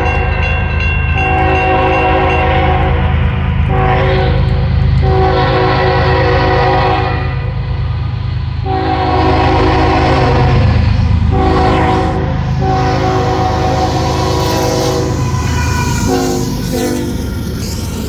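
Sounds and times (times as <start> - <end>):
locomotive engine rumble: 0.0 - 18.0
train horn blasts: 1.2 - 7.6, 8.6 - 17.3.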